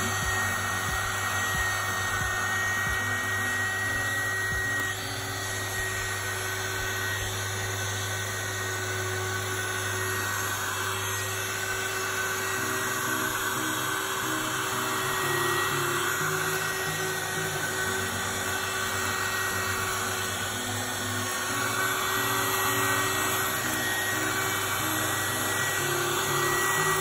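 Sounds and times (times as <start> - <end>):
high steady whine: 0.0 - 27.0
small vacuum running: 0.0 - 27.0.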